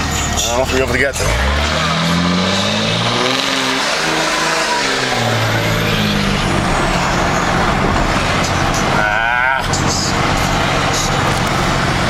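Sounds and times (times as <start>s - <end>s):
diesel truck engine driving: 0.0s - 12.0s.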